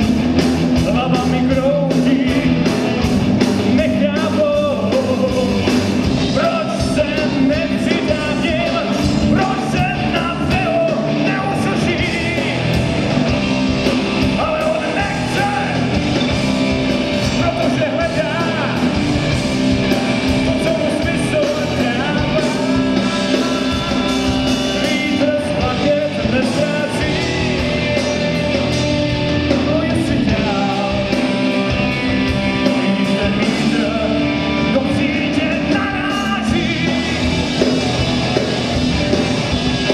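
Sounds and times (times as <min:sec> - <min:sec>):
bass guitar: 0:00.0 - 0:39.9
drums: 0:00.0 - 0:39.9
electric guitars: 0:00.0 - 0:39.9.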